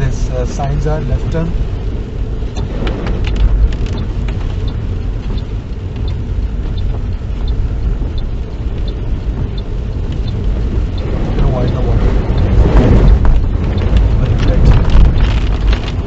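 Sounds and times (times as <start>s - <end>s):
road and engine rumble: 0.0s - 16.0s
light ticking: 0.6s - 16.0s.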